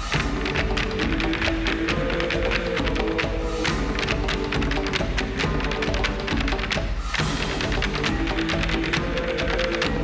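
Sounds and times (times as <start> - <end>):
hard-shoe steps clicking on stage: 0.0 - 10.0
step dance music: 0.0 - 10.0.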